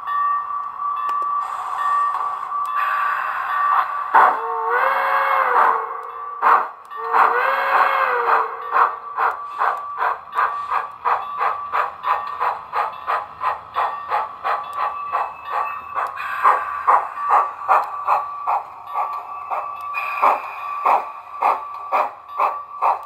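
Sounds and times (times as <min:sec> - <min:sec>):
model locomotive exhaust chuffs: 0:02.8 - 0:23.0.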